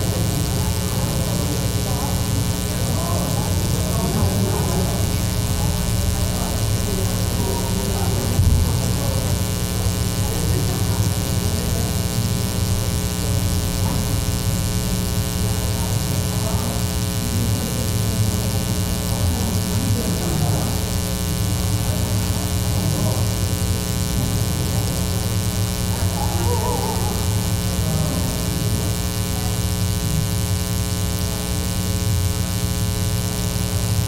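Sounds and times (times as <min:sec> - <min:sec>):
electrical mains hum: 0:00.0 - 0:34.0
faint conversation: 0:00.0 - 0:34.0.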